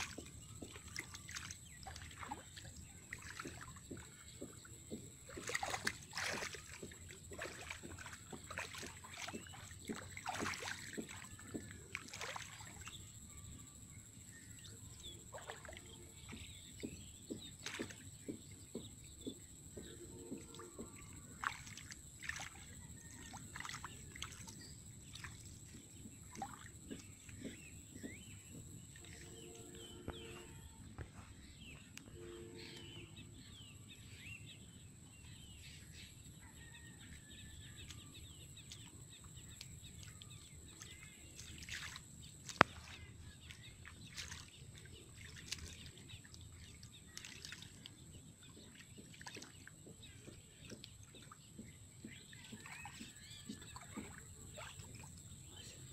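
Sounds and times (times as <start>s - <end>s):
squelching in muddy water: 0.0s - 30.8s, 35.5s - 55.9s
birds chirping: 0.0s - 55.9s.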